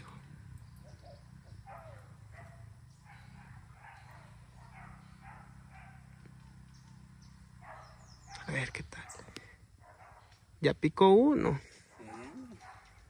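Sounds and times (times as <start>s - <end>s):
distant dog barking: 0.9s - 10.5s, 11.8s - 13.0s.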